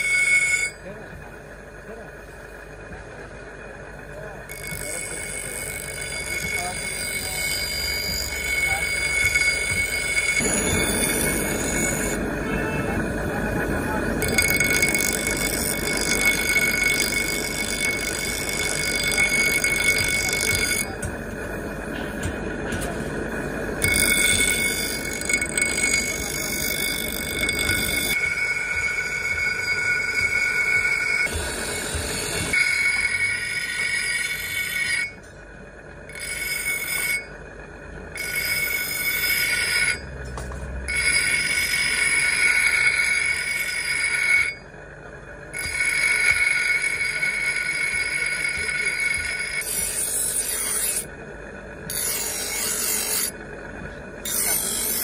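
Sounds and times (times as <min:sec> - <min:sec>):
grinding wheel on steel: 0:00.0 - 0:55.0
motor hum: 0:00.0 - 0:55.0.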